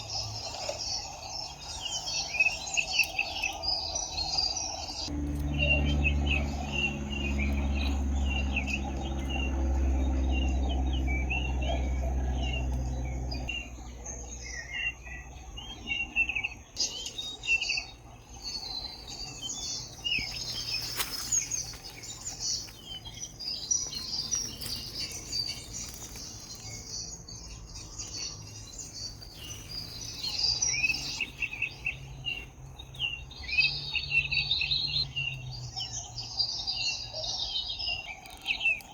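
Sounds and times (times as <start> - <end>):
birds chirping and singing: 0.0 - 38.9
low engine-like hum: 0.0 - 38.9.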